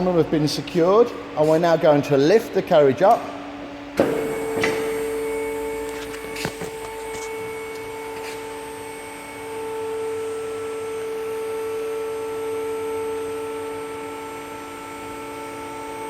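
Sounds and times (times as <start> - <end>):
hydraulic pump motor whining: 3.1 - 16.0.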